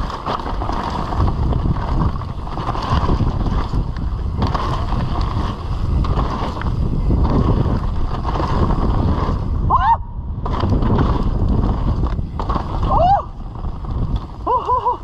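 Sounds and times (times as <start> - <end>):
tyres rumbling on dirt: 0.0 - 9.7, 10.3 - 15.0
wind rushing over microphone: 0.0 - 15.0.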